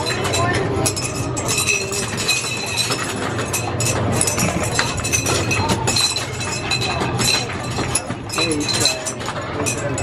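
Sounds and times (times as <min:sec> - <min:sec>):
rings clattering on glass bottles: 0:00.0 - 0:10.0.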